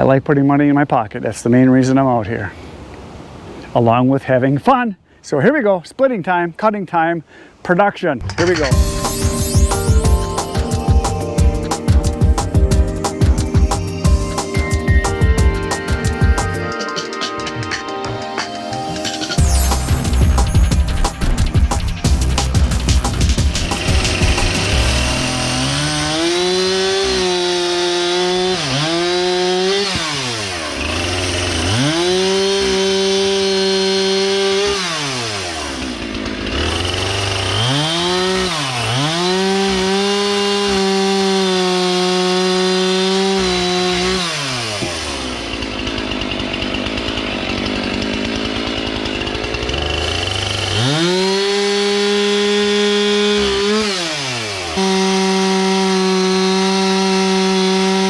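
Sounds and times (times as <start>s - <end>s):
chainsaw cutting logs: 8.2s - 16.7s, 18.2s - 58.0s.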